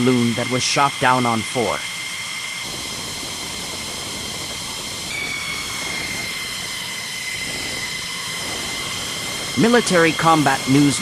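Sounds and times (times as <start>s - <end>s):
jet engine whine: 0.0s - 11.0s.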